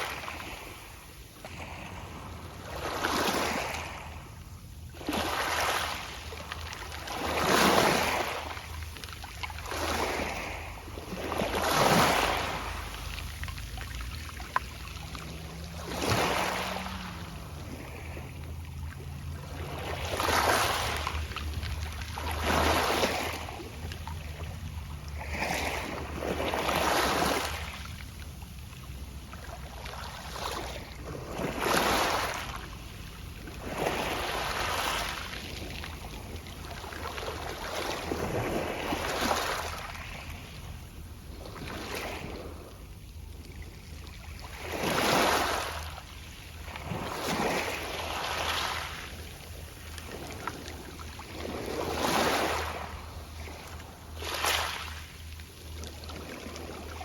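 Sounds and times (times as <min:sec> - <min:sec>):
waves washing onto pebbles: 0:01.5 - 0:04.2, 0:04.9 - 0:42.8, 0:44.0 - 0:57.0.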